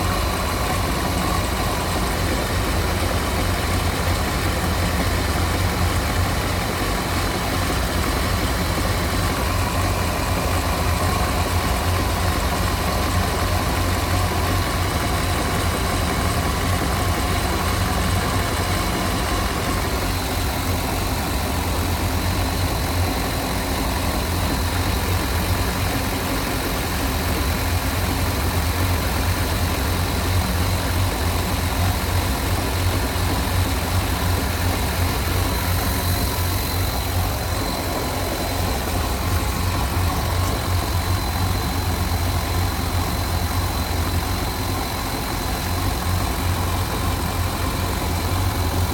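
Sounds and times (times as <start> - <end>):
boat engine running steadily: 0.0 - 48.9.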